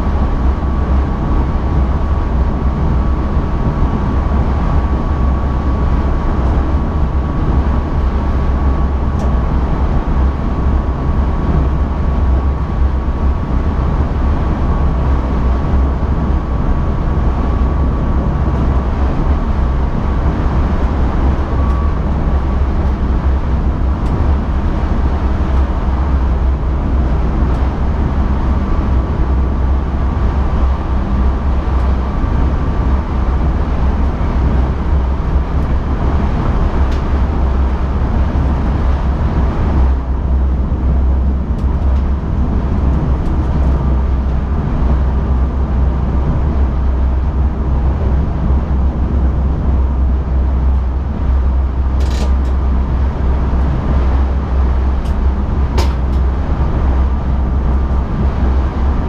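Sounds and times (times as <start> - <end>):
train rumbling along track: 0.0 - 59.0.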